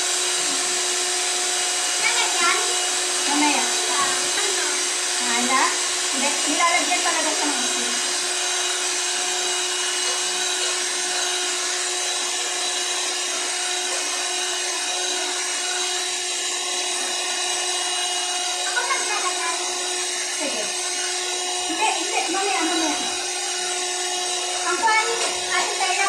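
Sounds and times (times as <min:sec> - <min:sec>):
electric hand mixer whine: 0:00.0 - 0:26.0.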